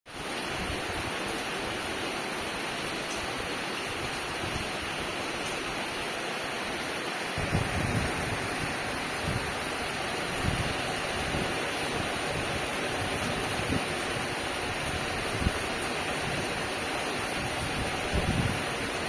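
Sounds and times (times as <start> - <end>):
steady rain falling: 0.1 - 19.0
wind gusts buffeting microphone: 0.4 - 5.9, 7.3 - 19.0.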